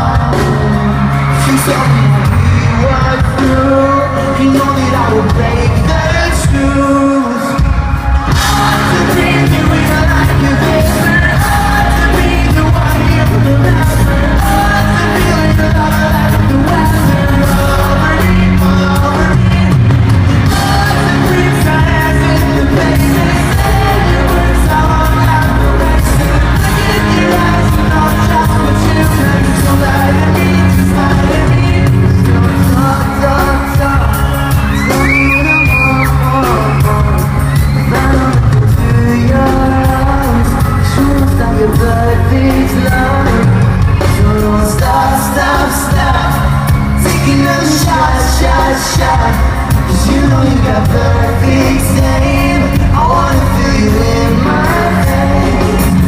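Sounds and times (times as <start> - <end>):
crowd shouting and screaming: 0.0 - 56.0
live pop rock band: 0.0 - 56.0
person singing: 0.0 - 56.0.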